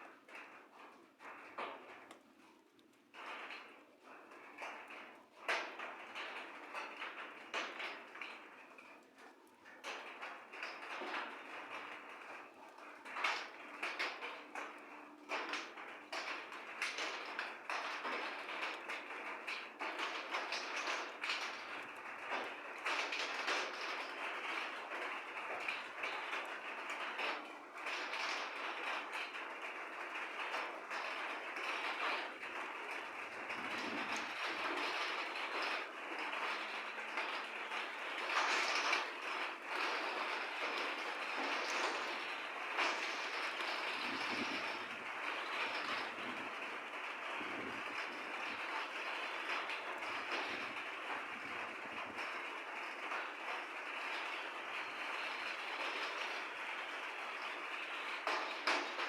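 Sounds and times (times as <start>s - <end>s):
rain falling steadily: 0.0s - 59.0s
raindrops tapping hard surface: 0.1s - 59.0s.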